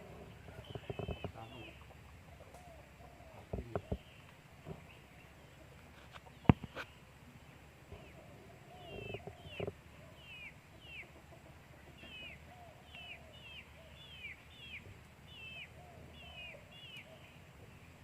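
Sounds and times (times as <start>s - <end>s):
soft lower animal calls: 0.0s - 18.0s.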